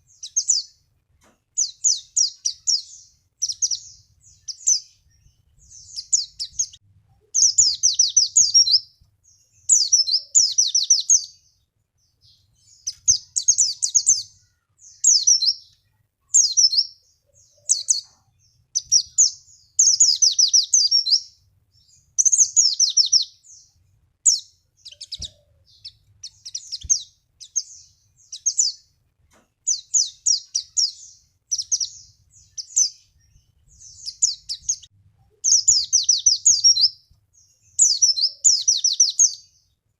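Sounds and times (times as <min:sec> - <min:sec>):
bird singing high chattering phrases: 0:00.0 - 0:00.9, 0:01.5 - 0:29.0, 0:29.6 - 0:39.8.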